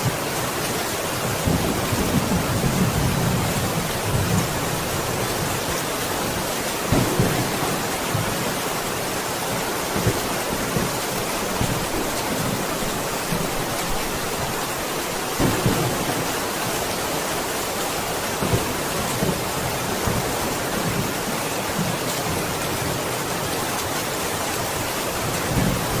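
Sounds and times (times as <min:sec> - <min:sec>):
thunder rumbling: 0:00.0 - 0:23.4
heavy rain: 0:00.0 - 0:26.0.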